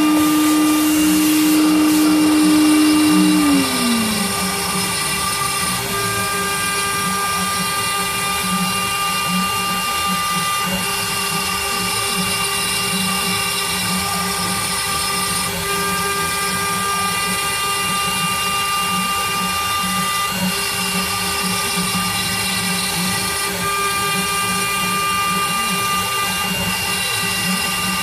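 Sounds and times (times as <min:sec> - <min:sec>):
router spindle whining: 0:00.0 - 0:28.0.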